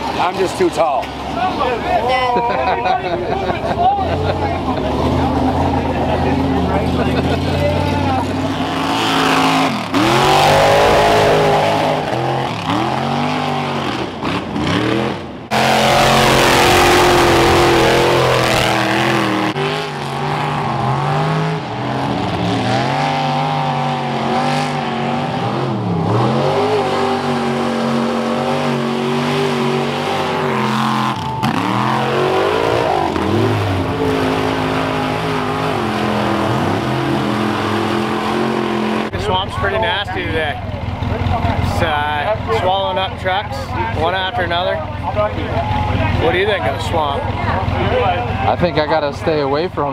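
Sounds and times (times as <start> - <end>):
truck engines revving in mud: 0.0 - 49.9.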